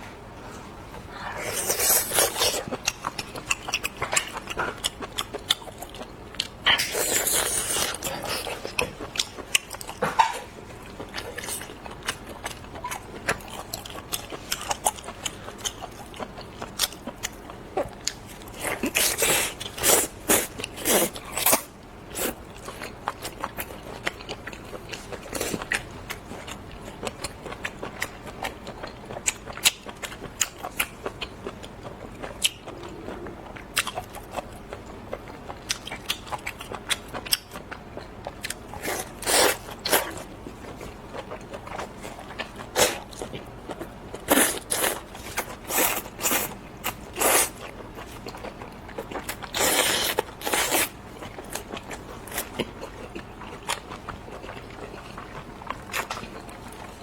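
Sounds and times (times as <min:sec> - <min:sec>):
wet chewing and biting: 0:11.0 - 0:57.0.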